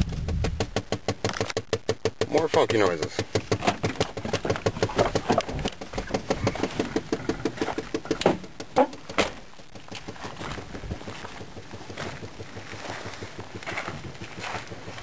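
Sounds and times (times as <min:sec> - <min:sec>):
engine running with knocking tick: 0:00.0 - 0:15.0.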